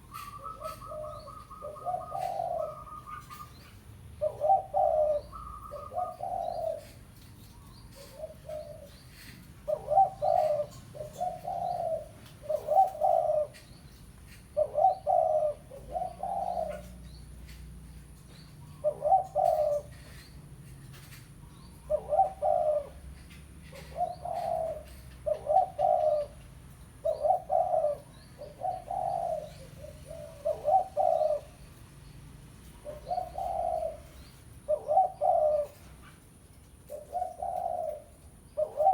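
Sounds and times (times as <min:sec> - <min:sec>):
dove cooing: 0:00.0 - 0:31.9, 0:32.6 - 0:38.9.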